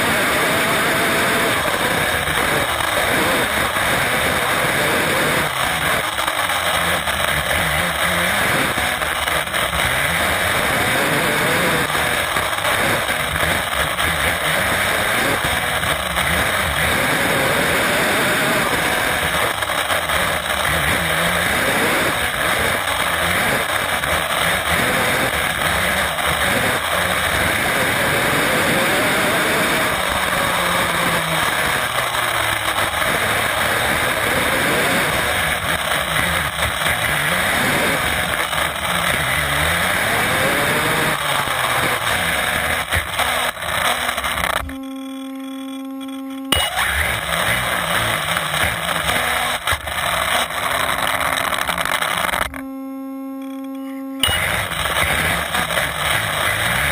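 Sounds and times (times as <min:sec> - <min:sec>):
rc car running gear hiss: 0:00.0 - 0:44.7, 0:46.7 - 0:52.5, 0:54.2 - 0:56.9
electric motor whine: 0:00.0 - 0:56.9.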